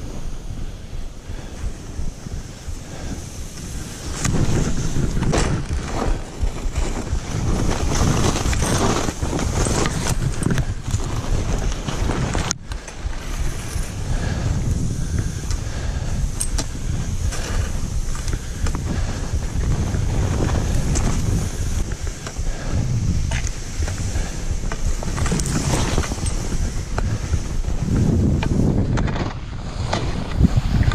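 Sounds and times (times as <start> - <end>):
skis running through powder snow: 0.0 - 30.9
wind buffeting microphone: 0.0 - 30.9.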